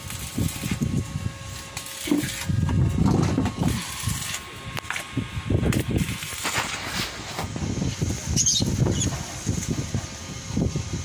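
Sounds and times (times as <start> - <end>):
wind buffeting microphone: 0.1 - 1.5, 2.2 - 11.0.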